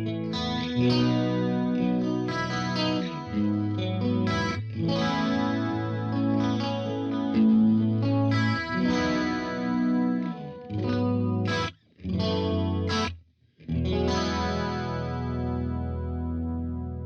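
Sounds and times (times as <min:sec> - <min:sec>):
distorted electric guitar chords: 0:00.0 - 0:13.1, 0:13.7 - 0:17.0.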